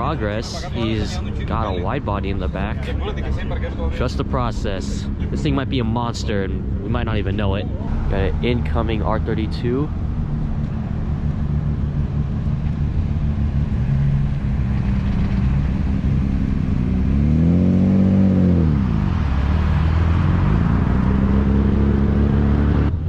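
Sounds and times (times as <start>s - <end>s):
car engine running and revving: 0.0s - 23.0s.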